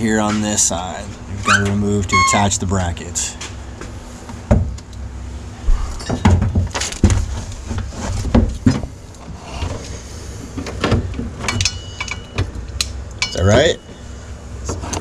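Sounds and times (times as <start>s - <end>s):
low steady rumble: 0.0s - 14.9s.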